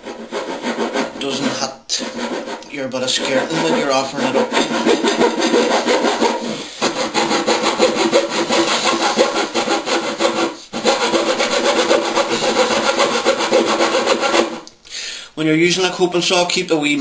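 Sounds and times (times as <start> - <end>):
coping saw cutting wood: 0.0 - 14.6.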